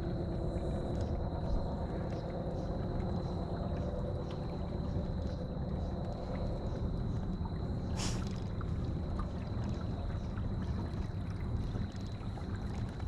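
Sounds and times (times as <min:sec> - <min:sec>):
water and wind rumble: 0:00.0 - 0:13.0.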